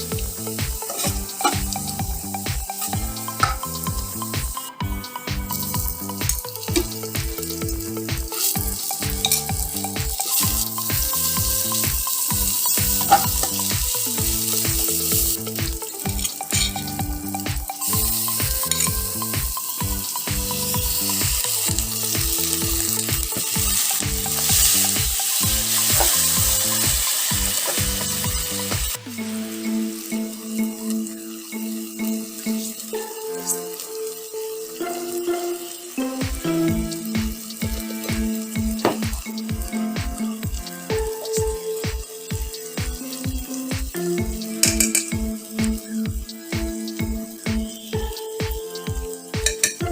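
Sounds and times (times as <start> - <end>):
background music with beat: 0.0 - 49.9
food sizzling in a pan: 0.0 - 49.9.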